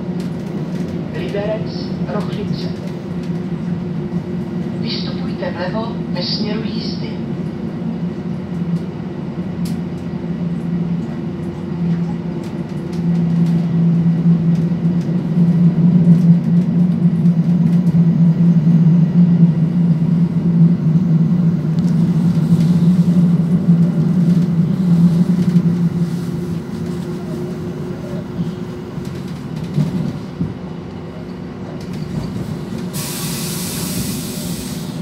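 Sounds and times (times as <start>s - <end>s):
diesel railcar engine drone: 0.0s - 35.0s.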